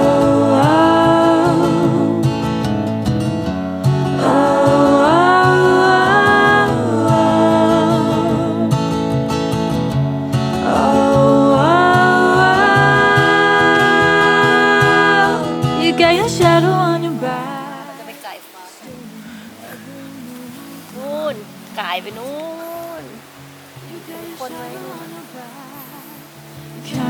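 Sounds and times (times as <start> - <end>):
person singing long notes: 0.0 - 2.6, 4.0 - 8.9, 10.5 - 27.0.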